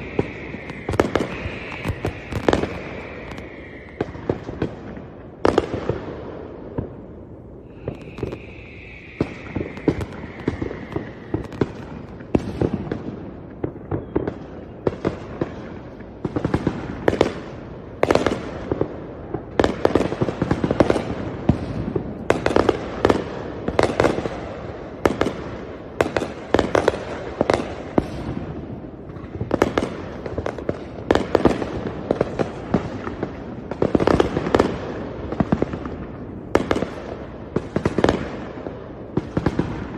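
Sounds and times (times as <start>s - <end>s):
fireworks bangs and cracks: 0.0s - 39.9s
whistling firework: 0.0s - 39.9s.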